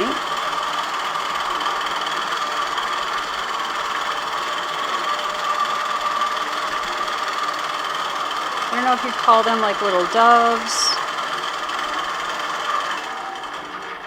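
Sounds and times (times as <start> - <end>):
quilting machine humming: 0.0 - 14.0.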